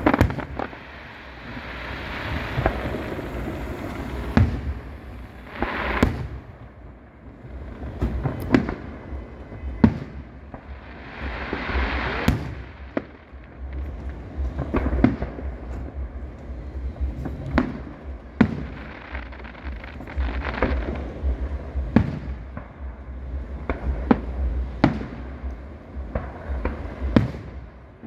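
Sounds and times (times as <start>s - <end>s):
fireworks hissing and crackling: 0.0s - 28.0s.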